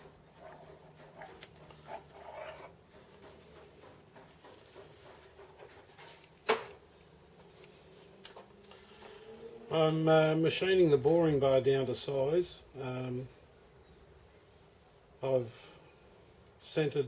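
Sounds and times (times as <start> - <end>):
soft rustles and light taps: 0.0 - 17.0.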